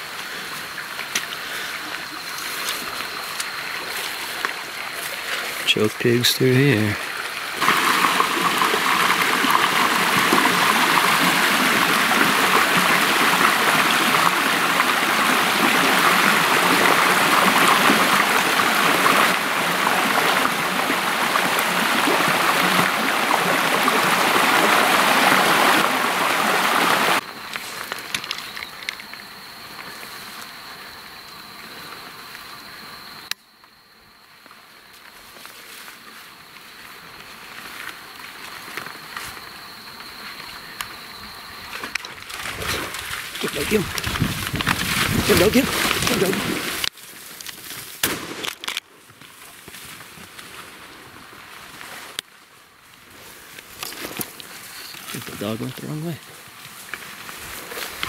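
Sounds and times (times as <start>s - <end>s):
stream running over rocks: 0.0s - 33.4s, 35.7s - 47.9s, 49.7s - 58.0s.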